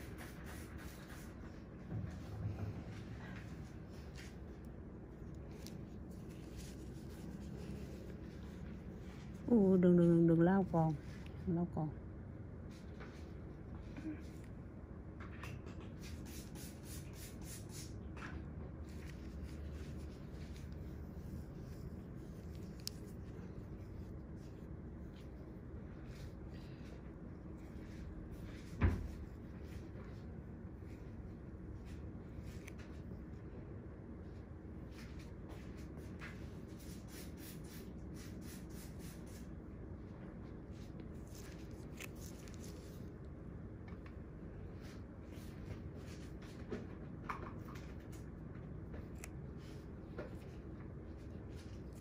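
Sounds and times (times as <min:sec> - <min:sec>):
soft rubbing and scratching: 0:00.0 - 0:11.9, 0:15.8 - 0:33.6, 0:34.2 - 0:43.3, 0:47.6 - 0:52.0
low steady hum: 0:00.0 - 0:52.0.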